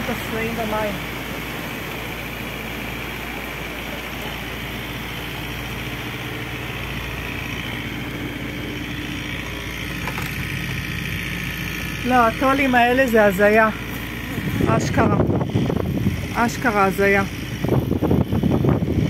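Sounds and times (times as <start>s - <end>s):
boat engine running: 0.0s - 19.0s
wind: 0.0s - 19.0s.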